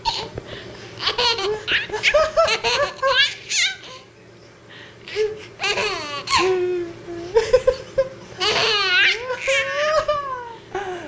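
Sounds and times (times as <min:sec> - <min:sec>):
baby laughing: 0:00.0 - 0:00.3, 0:01.0 - 0:04.1, 0:05.1 - 0:10.6.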